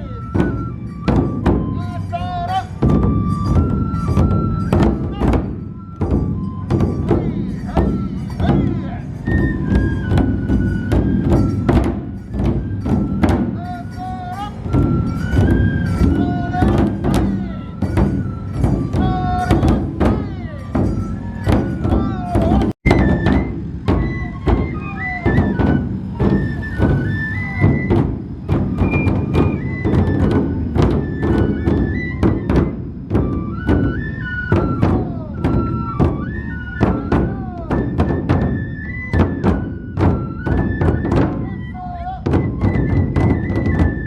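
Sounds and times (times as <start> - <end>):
bamboo flute melody: 0.0 - 44.0
large drums struck fast: 0.2 - 1.8, 2.8 - 13.6, 14.6 - 44.0.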